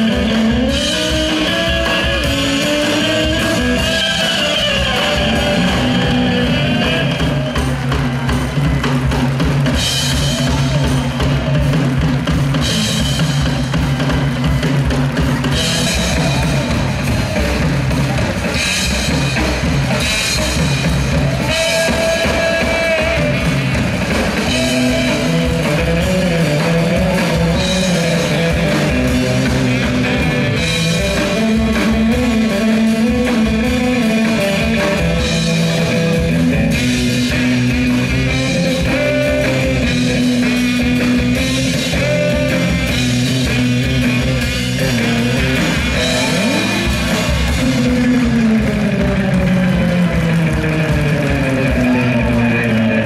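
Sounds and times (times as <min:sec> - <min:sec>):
drum kit: 0:00.0 - 0:53.0
guitar: 0:00.0 - 0:53.0.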